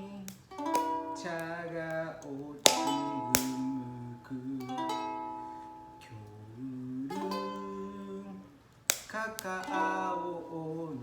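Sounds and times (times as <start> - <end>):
ukulele strummed: 0.0 - 11.0.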